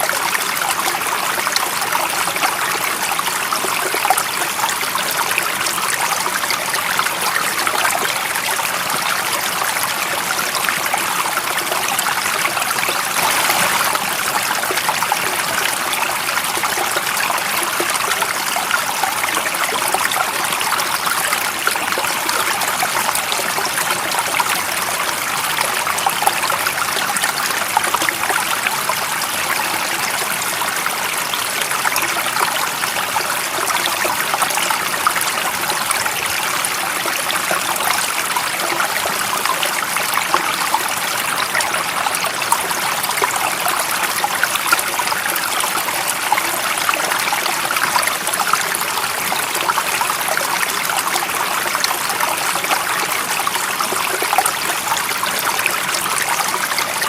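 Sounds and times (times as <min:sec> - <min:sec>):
stream running and trickling: 0:00.0 - 0:57.0.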